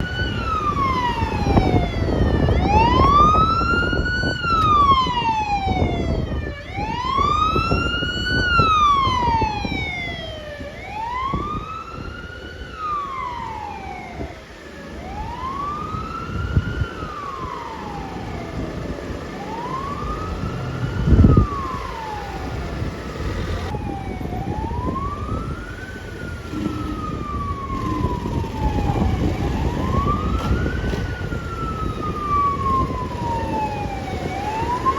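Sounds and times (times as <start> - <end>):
fire truck siren wailing: 0.0 - 34.9
truck engine and tyres rumble: 0.0 - 34.9.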